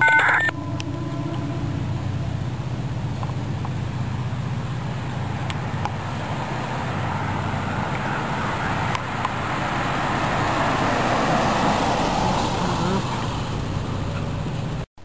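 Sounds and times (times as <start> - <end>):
diesel locomotive engine rumble: 0.0 - 14.9.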